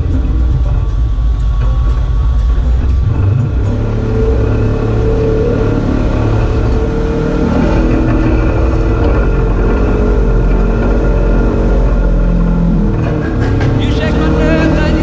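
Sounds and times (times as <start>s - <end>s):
utility vehicle engine rumbling: 0.0s - 15.0s.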